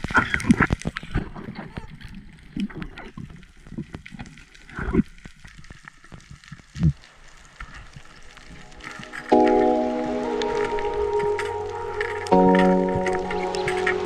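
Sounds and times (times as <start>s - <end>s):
underwater crackling and clicking: 0.0s - 14.0s.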